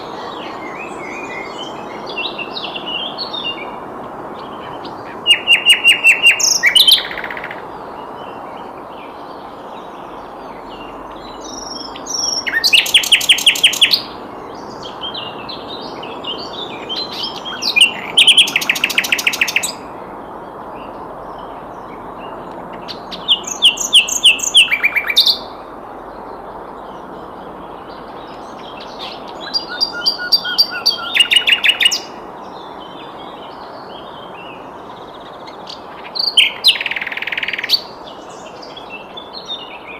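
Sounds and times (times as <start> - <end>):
soft bird twittering: 0.0 - 39.9
steady background hiss: 0.0 - 39.9.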